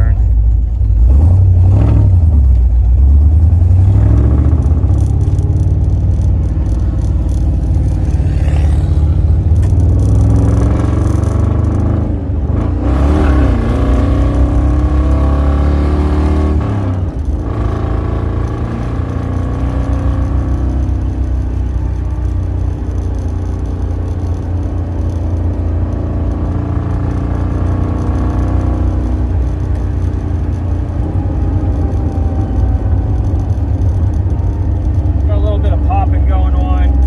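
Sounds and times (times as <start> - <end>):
car engine driving: 0.0 - 37.0.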